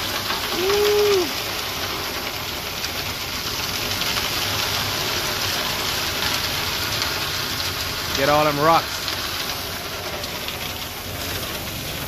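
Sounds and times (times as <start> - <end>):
hose spraying water on metal: 0.0 - 12.0
truck engine running: 0.0 - 12.0.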